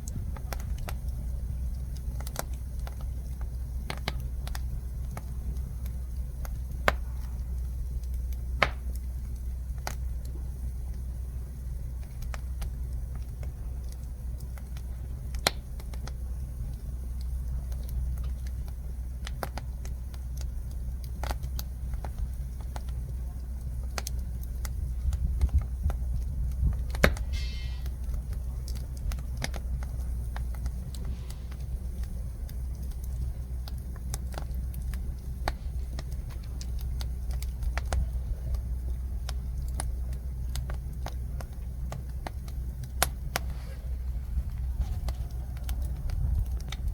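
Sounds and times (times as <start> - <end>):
fire crackling and popping: 0.0 - 46.9.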